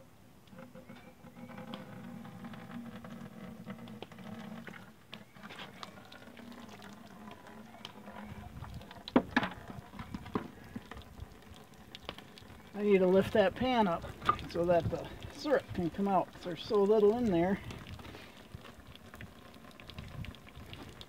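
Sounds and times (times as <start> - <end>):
syrup bubbling: 0.0 - 21.0
syrup trickling into bucket: 1.5 - 21.0.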